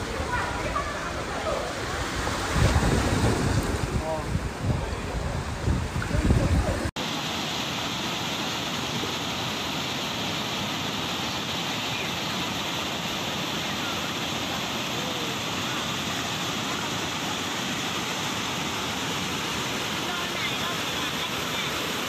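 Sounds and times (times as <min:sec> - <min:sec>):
water rushing over a weir: 0:00.0 - 0:22.0.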